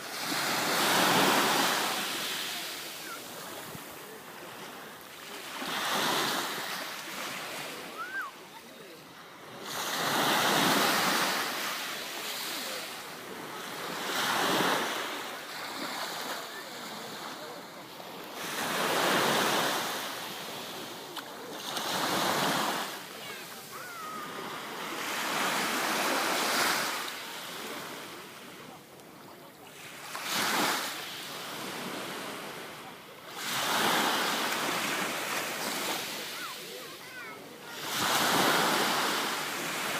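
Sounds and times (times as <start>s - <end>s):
sea waves breaking on beach: 0.0s - 28.9s, 29.6s - 39.9s.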